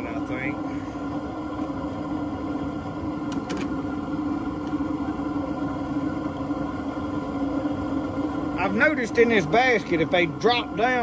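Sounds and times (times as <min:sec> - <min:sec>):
burner humming: 0:00.0 - 0:11.0
food bubbling in oil: 0:00.0 - 0:11.0.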